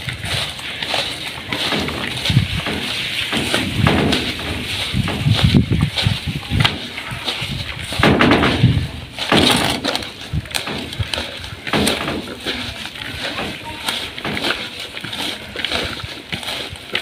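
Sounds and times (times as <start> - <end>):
hand kneading chopped greens: 0.0 - 17.0.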